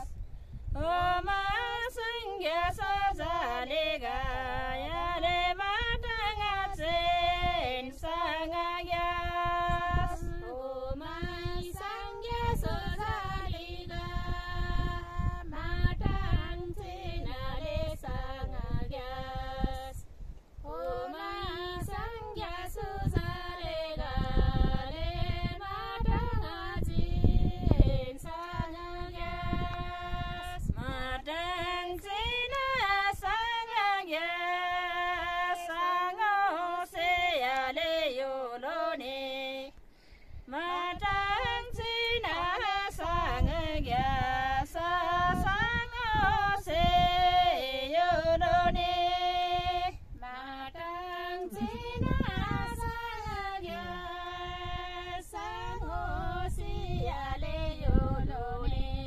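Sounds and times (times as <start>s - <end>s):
women singing in unison: 0.0s - 39.8s, 40.4s - 59.0s.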